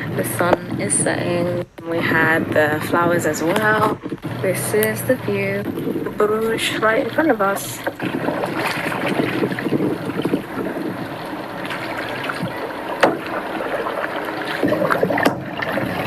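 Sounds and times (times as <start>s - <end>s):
water splashing around a kayak: 0.0s - 16.0s.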